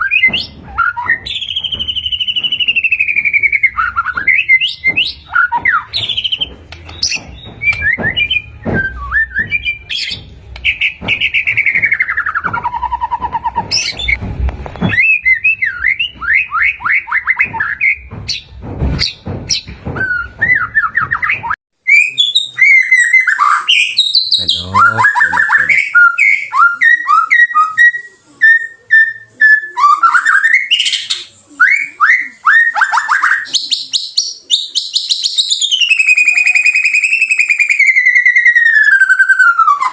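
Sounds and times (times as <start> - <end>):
songbird singing whistles and trills: 0.0 - 18.4, 19.0 - 39.9.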